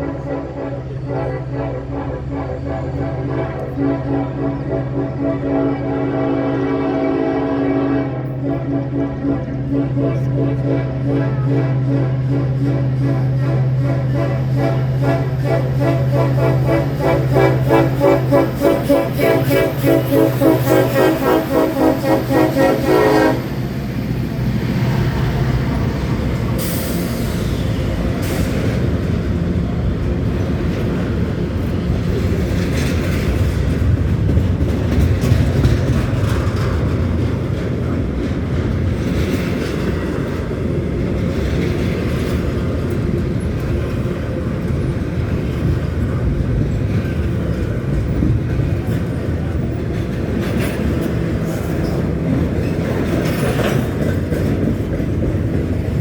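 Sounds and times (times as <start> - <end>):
train cars clanking: 0.0 - 56.0
train wheels rumbling on rail: 0.0 - 56.0.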